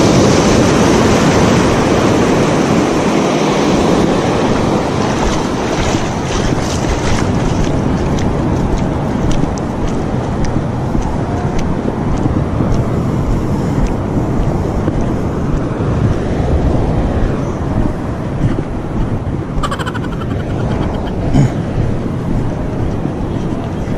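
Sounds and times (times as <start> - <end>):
surf washing over sand: 0.0 - 23.9
wind rumble on microphone: 0.0 - 23.9.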